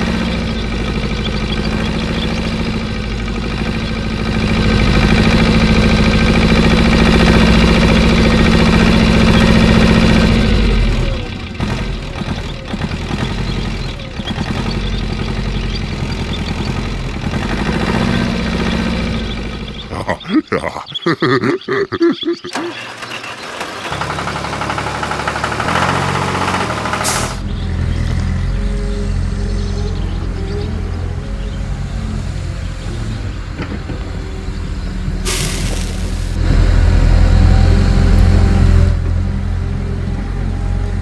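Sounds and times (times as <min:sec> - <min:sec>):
engine idling: 0:00.0 - 0:20.0, 0:22.5 - 0:31.9, 0:32.7 - 0:37.9.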